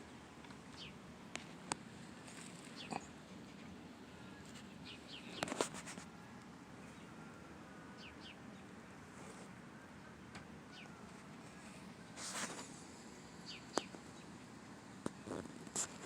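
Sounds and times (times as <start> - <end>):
birds chirping: 0.0 - 9.0, 9.6 - 15.6.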